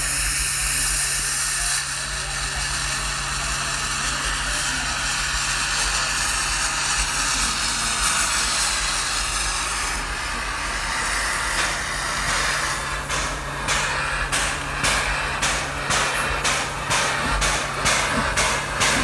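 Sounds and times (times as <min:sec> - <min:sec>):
locomotive venting steam hiss: 0:00.0 - 0:19.0
low hum and rumble: 0:00.0 - 0:19.0.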